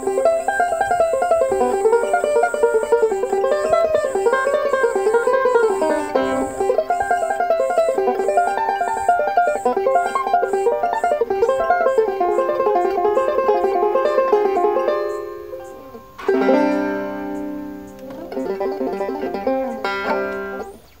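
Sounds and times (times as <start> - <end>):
banjo chord ringing: 0.0 - 20.8
banjo fingerpicking: 0.0 - 21.0.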